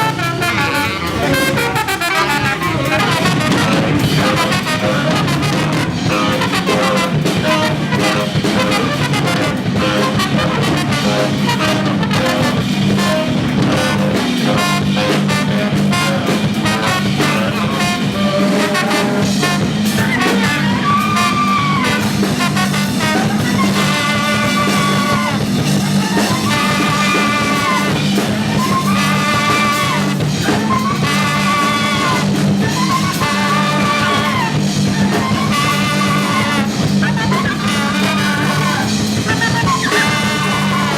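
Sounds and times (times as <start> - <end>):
fast dense drumming: 0.0 - 40.9
horn wailing: 0.0 - 40.9.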